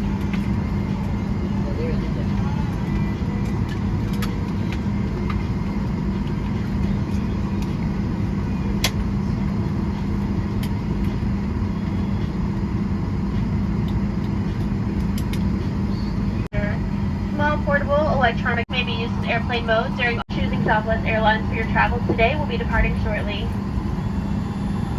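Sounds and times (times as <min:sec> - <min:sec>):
cabin ventilation hum: 0:00.0 - 0:24.9.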